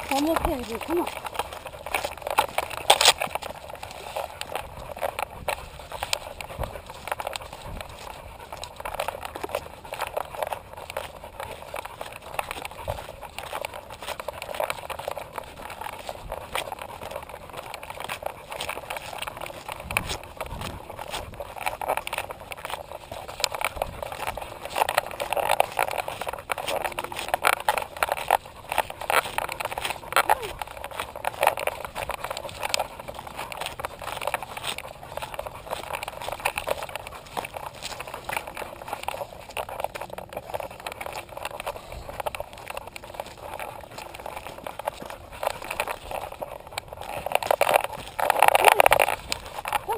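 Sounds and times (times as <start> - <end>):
camera jostling on harness: 0.0 - 49.9.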